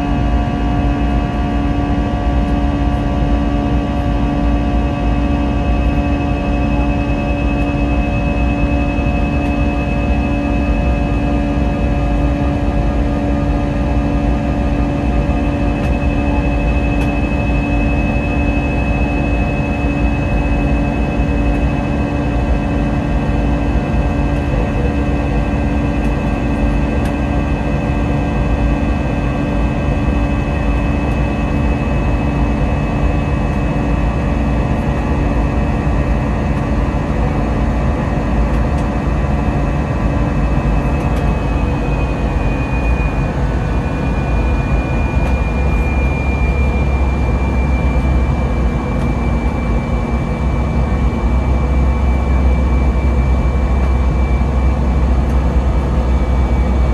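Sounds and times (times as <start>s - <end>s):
high engine whine: 0.0s - 56.9s
jet engines rumbling in cabin: 0.0s - 56.9s.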